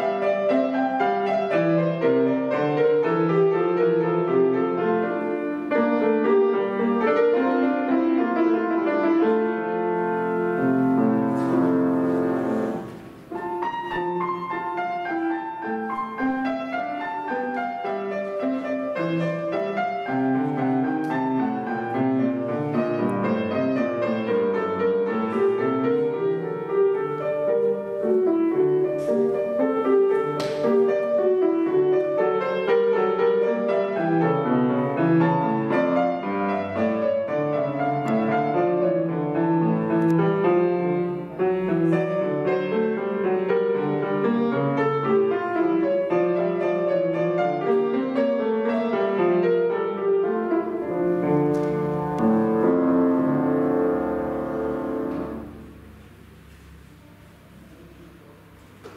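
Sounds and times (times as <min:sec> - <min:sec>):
solo classical piano: 0:00.0 - 0:58.9.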